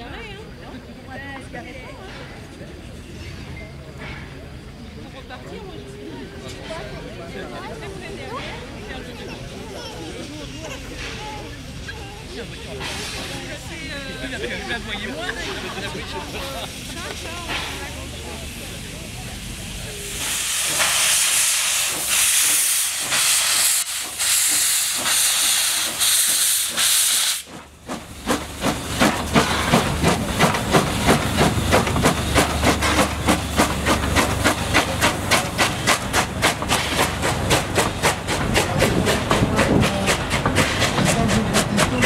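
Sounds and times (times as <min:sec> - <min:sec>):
steam locomotive chuffing: 0:00.0 - 0:42.0
steam hissing: 0:08.3 - 0:42.0.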